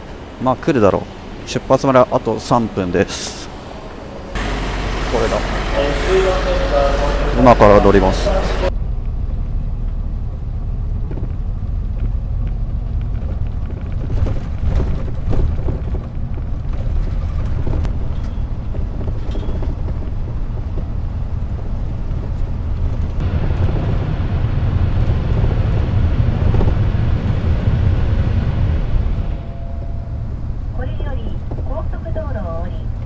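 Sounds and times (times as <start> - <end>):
coach engine and road rumble: 0.0 - 33.0.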